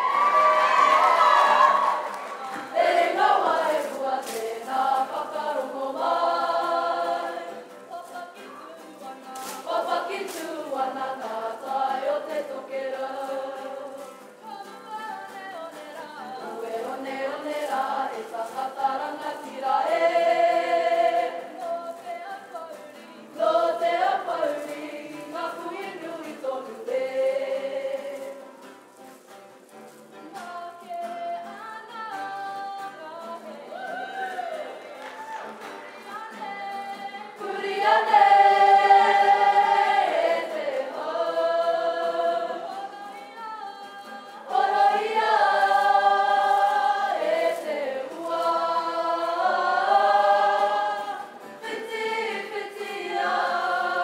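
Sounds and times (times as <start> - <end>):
group singing together: 0.0 - 28.8, 30.4 - 54.0.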